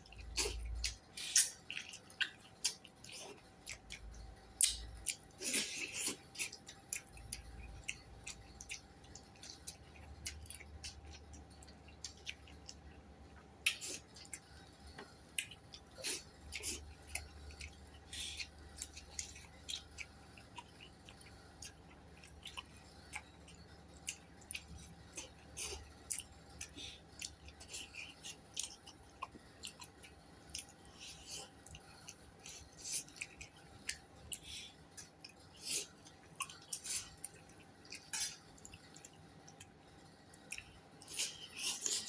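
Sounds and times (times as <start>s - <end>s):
faint steady hum: 0.0s - 42.0s
person chewing with mouth smacks: 0.0s - 42.0s.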